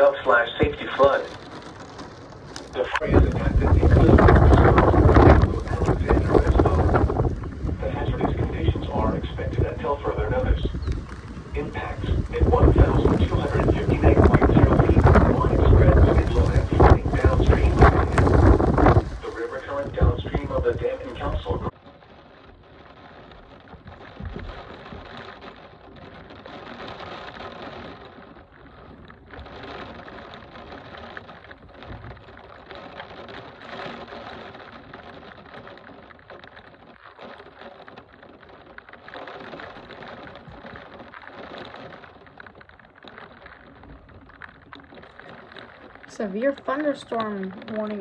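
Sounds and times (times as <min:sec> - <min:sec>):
heavy rain on hard surface: 0:00.0 - 0:48.0.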